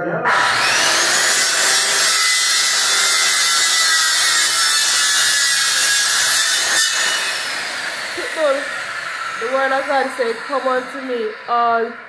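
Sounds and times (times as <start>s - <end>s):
power tool whining: 0.2s - 12.0s.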